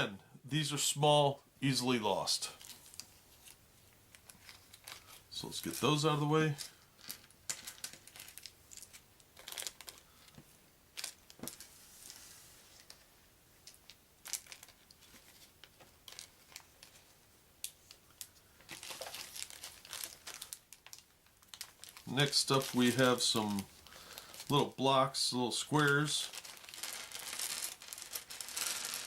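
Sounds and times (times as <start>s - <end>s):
plastic bags crinkling: 2.4s - 12.2s, 13.6s - 17.2s, 17.8s - 24.8s, 25.5s - 29.0s.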